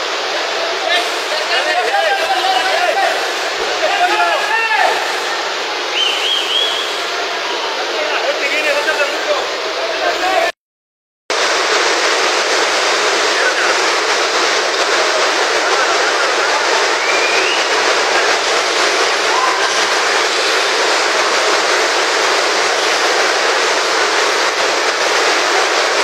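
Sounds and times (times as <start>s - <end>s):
heavy rain on tent canvas: 0.0s - 7.3s, 11.3s - 26.0s.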